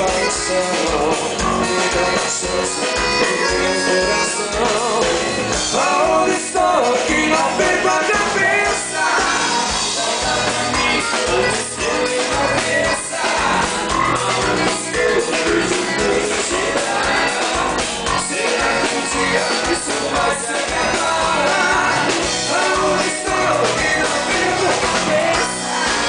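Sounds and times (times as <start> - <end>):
dance band playing: 0.0 - 26.0
person singing: 0.0 - 26.0
steady drum beat: 0.0 - 26.0.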